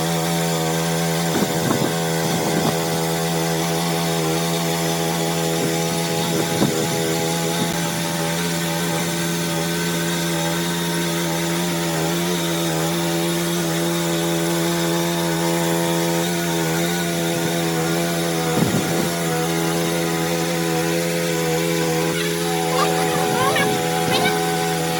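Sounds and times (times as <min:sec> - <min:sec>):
motor running steadily: 0:00.0 - 0:24.9.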